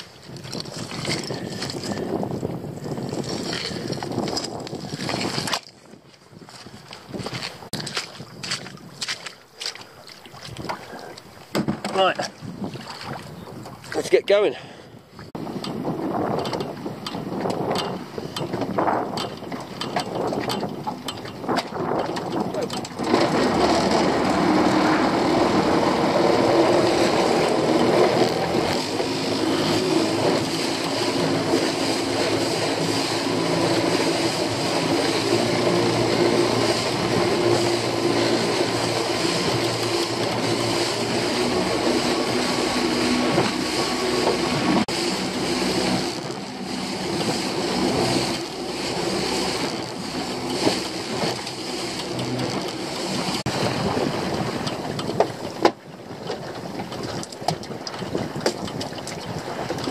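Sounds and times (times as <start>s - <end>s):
water splashing along hull: 0.0s - 59.9s
boat engine droning: 9.4s - 59.9s.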